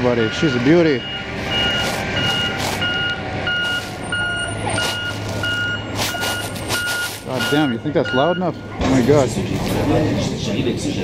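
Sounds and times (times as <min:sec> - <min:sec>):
truck reverse alarm beeping: 0:00.0 - 0:08.8
truck engine humming: 0:00.0 - 0:11.0.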